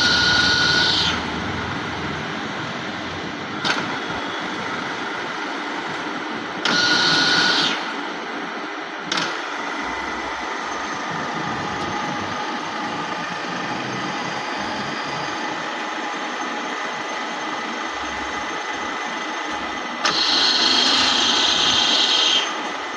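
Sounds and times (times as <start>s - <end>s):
milling machine humming: 0.0s - 22.9s.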